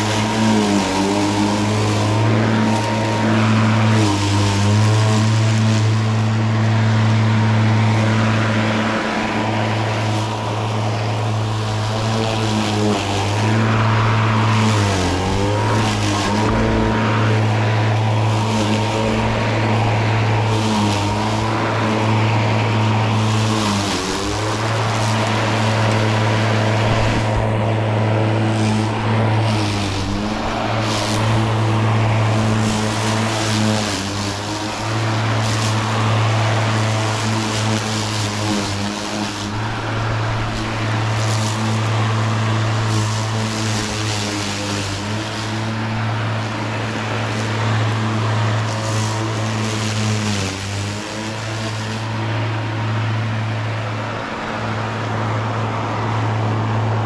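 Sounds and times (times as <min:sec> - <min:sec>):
lawnmower cutting grass: 0:00.0 - 0:57.0.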